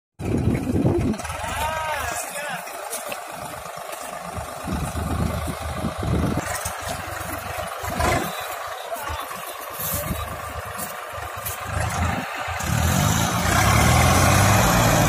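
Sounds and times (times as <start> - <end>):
tractor diesel engine running: 0.2 - 15.0.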